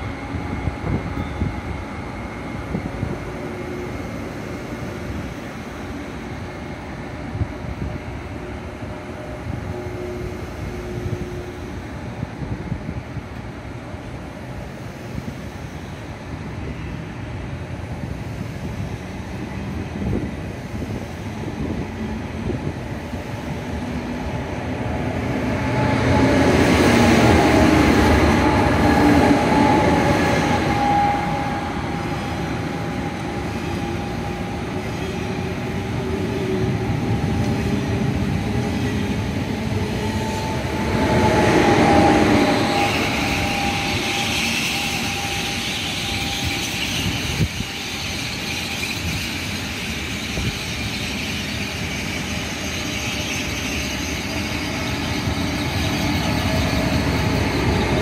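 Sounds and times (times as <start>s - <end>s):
steady train whine: 0.0s - 58.0s
train wheels rumbling on rail: 0.0s - 58.0s.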